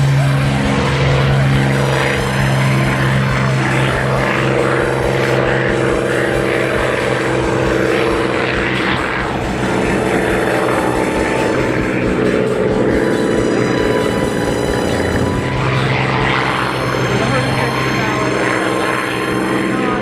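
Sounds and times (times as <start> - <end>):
propeller aircraft engine droning: 0.0 - 20.0.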